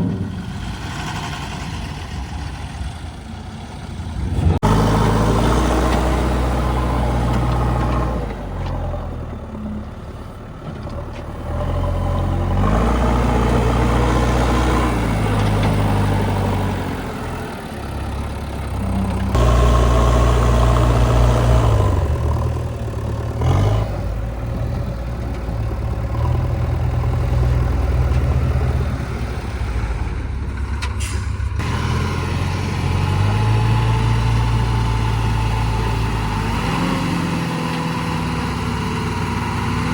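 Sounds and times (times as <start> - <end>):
heavy diesel machinery revving: 0.0 - 39.9.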